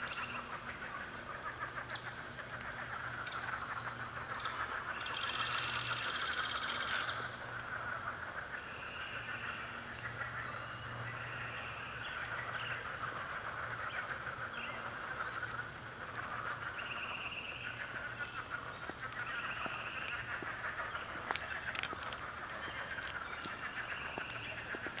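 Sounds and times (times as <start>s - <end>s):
frogs trilling: 0.0s - 25.0s.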